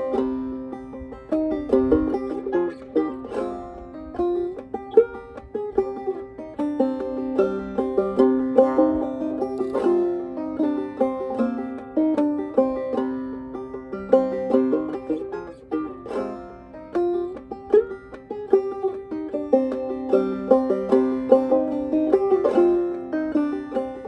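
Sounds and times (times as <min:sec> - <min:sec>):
clawhammer banjo folk melody: 0:00.0 - 0:24.0.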